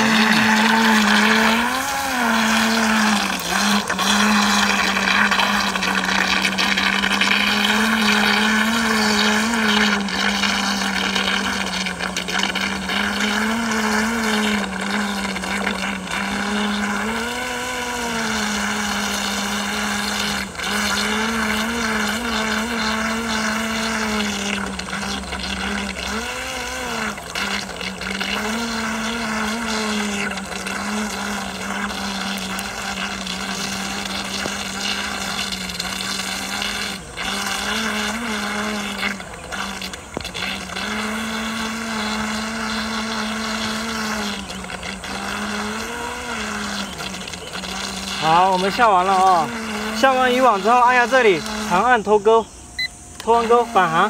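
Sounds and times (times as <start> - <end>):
electric boat motor whining: 0.0 - 54.0.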